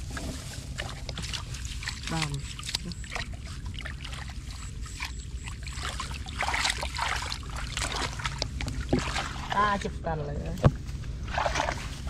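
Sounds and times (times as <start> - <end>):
hands splashing in muddy water: 0.0 - 9.7, 11.2 - 12.0
water trickling: 0.0 - 10.2.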